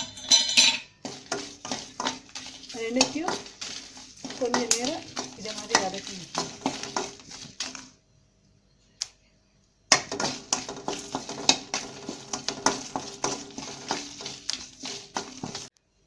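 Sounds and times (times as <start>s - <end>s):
spatula scraping a pan: 0.0s - 8.0s, 9.9s - 15.7s.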